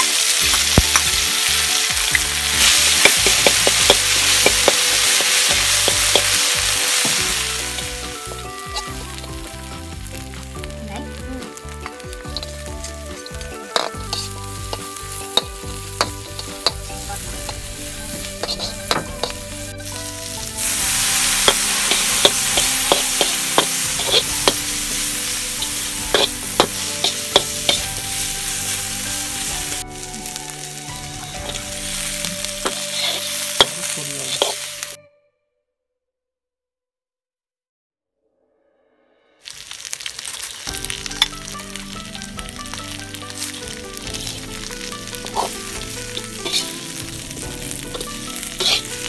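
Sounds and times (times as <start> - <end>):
food sizzling in a wok: 0.0 - 35.0, 39.4 - 49.0
metal spatula scraping wok: 0.0 - 35.0, 39.4 - 49.0.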